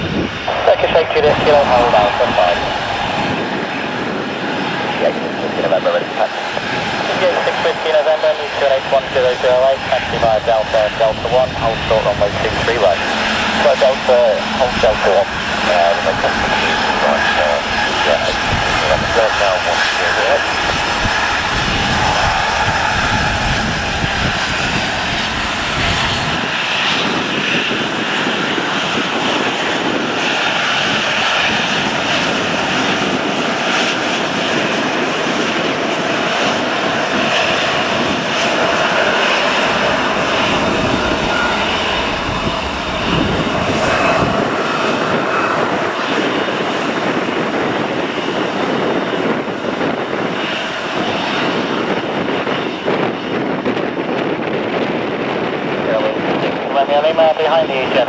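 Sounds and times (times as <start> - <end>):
airliner engines whining: 0.0 - 58.0
wind rumbling on microphone: 0.0 - 58.0.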